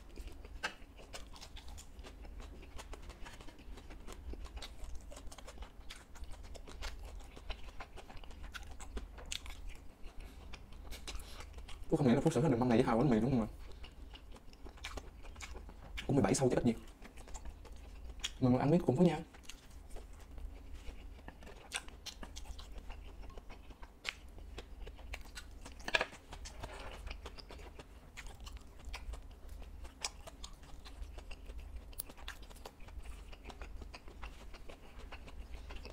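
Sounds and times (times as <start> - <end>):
person chewing crunchy food: 0.0 - 35.9.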